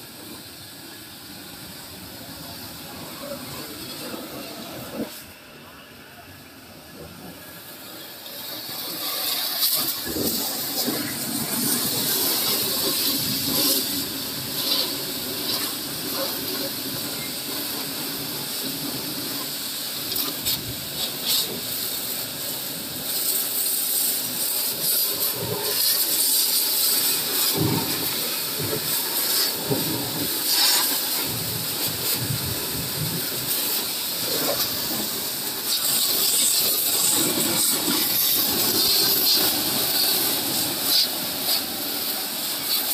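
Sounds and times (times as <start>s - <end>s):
water jet hissing on metal: 0.0s - 42.9s.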